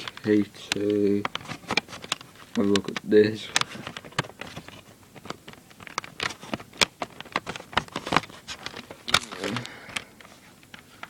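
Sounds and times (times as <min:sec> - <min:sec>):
cd cases clicking and rustling: 0:00.0 - 0:11.0.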